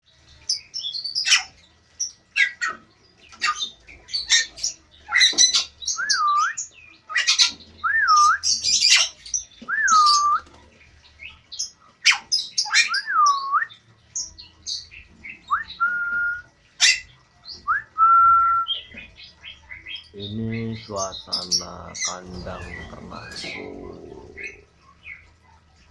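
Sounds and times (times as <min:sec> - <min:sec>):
caged birds chirping and squawking: 0:00.0 - 0:25.9.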